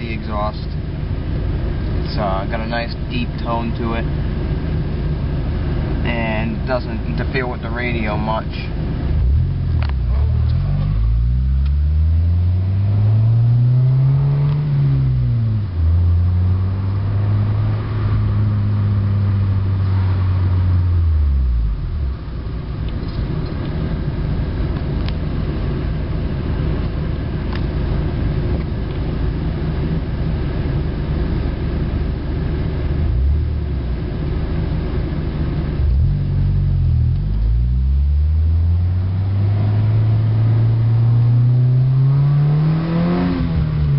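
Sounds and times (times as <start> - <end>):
car engine and exhaust: 0.0 - 43.9.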